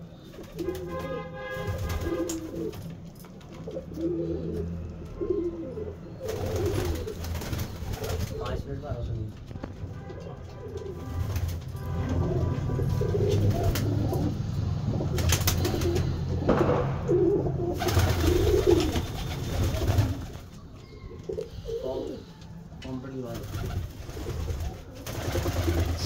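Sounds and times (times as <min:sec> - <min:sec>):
pigeons cooing: 0:00.0 - 0:09.2, 0:10.2 - 0:26.0.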